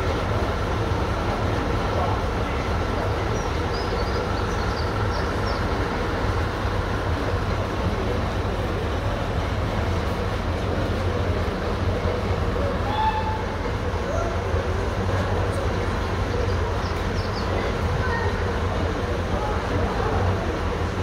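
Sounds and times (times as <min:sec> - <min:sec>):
diesel train idling: 0:00.0 - 0:21.0.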